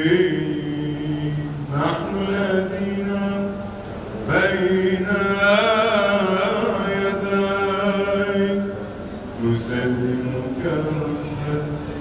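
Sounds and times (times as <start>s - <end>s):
man chanting a hymn: 0.0s - 12.0s.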